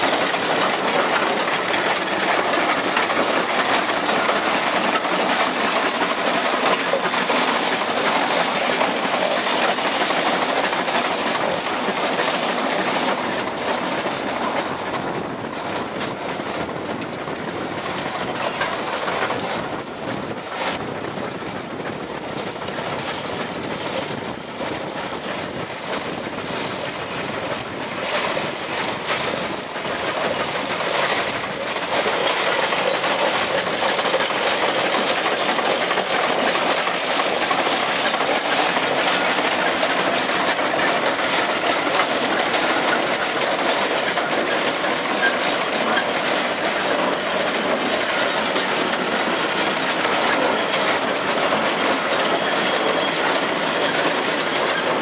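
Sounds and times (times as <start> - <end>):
steam traction engine clattering: 0.0 - 55.0.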